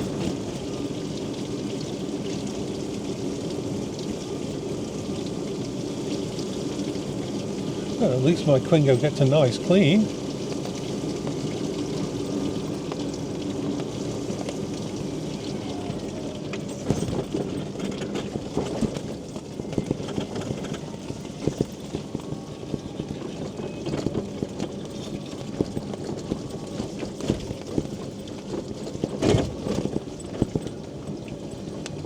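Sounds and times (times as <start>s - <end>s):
mobility scooter electric hum: 0.0s - 32.0s
knocks and rattles over paving: 6.1s - 32.0s.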